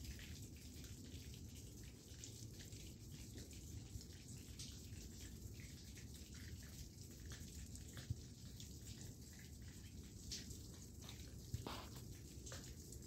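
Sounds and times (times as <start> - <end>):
water drops pattering from branches: 0.0 - 13.0.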